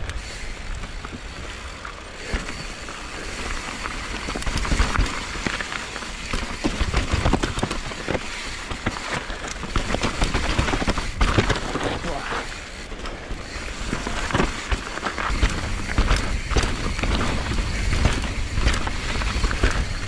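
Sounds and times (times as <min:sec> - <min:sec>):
tyre and trail noise: 0:00.0 - 0:20.0
bike clattering over rocks: 0:00.7 - 0:20.0.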